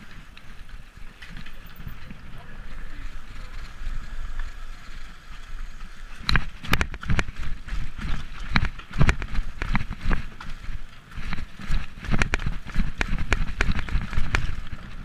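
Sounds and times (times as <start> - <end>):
bike rattling over cobblestones: 0.0 - 15.0.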